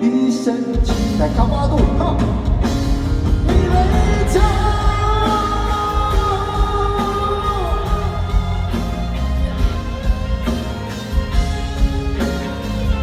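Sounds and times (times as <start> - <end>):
live pop-rock band: 0.0 - 13.0.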